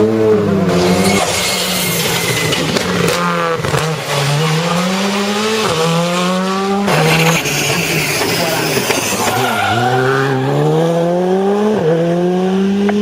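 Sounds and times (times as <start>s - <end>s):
rally car engine at full throttle: 0.0s - 13.0s.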